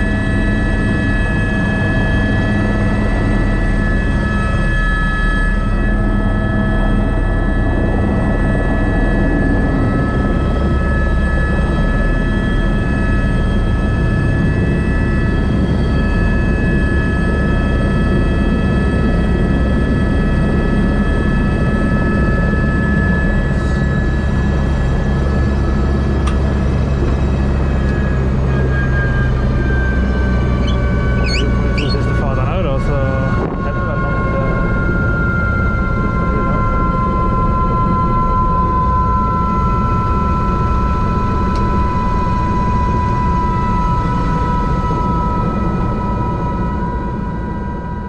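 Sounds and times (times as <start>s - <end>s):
helicopter engine and rotor running: 0.0s - 48.0s.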